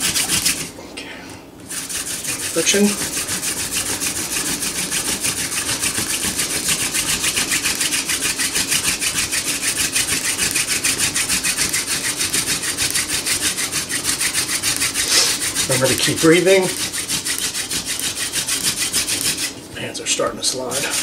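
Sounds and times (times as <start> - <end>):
hand drill rubbing on wood: 0.0 - 0.7, 1.7 - 19.6, 20.4 - 21.0.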